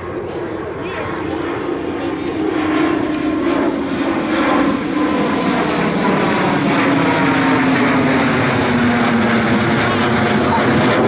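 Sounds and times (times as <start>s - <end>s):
fighter jet flying overhead: 0.0s - 11.0s.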